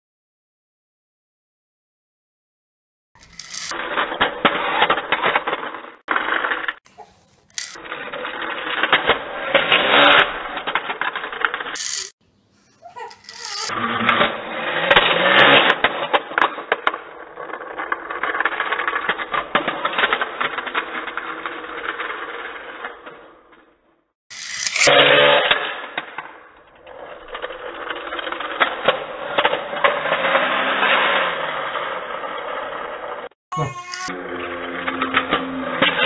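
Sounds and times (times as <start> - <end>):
plastic toy car clattering on wooden floor: 3.2 - 23.7, 24.3 - 32.9.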